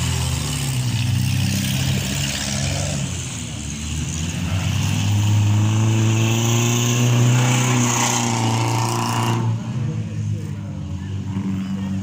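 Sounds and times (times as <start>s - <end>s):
car engine revving high: 0.0s - 10.0s.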